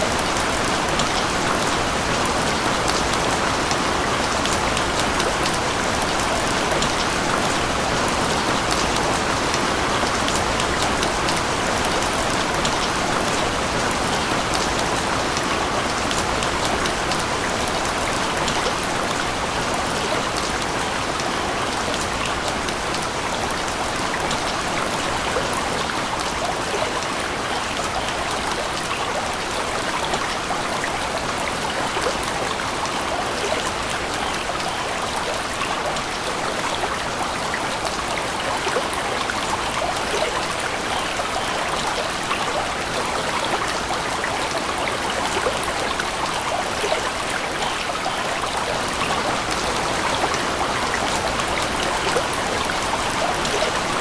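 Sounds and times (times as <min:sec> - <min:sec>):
rushing water with fine patter: 0:00.0 - 0:54.0.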